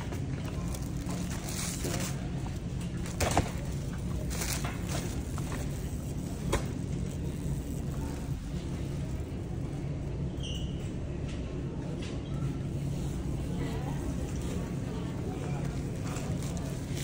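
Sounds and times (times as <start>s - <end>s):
shopping cart wheels rumbling: 0.0s - 10.2s, 12.5s - 17.0s.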